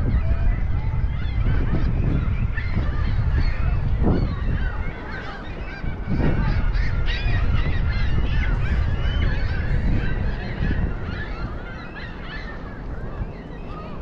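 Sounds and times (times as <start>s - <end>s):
many birds calling: 0.0s - 14.0s
wind rumbling on microphone: 0.0s - 14.0s.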